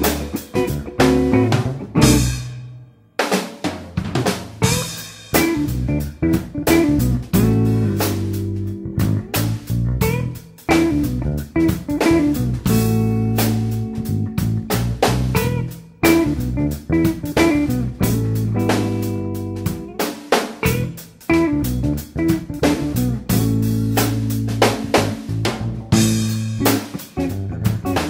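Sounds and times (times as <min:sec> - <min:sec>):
guitar bass and drums music: 0:00.0 - 0:28.0.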